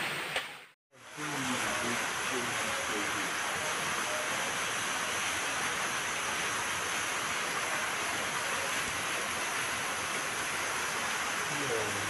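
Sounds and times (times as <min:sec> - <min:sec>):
waterfall splashing onto rocks: 0:00.0 - 0:12.0.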